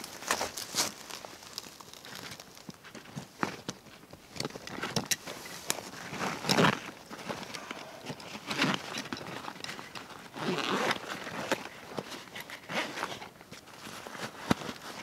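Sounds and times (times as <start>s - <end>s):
rustling and scraping of gear: 0.0s - 15.0s.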